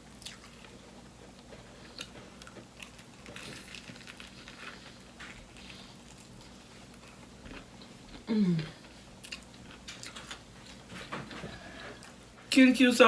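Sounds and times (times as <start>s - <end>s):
person chewing food: 0.0s - 12.2s.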